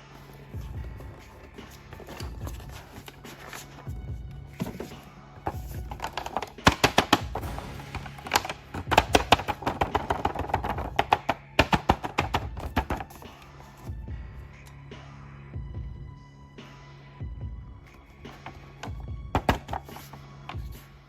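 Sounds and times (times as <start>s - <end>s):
background music: 0.0s - 21.0s.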